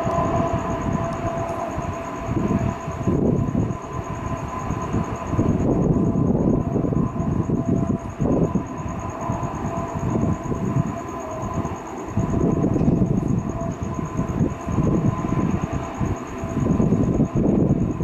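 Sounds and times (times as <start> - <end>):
jet engine roaring: 0.0 - 18.0
thin steady whine: 0.0 - 18.0.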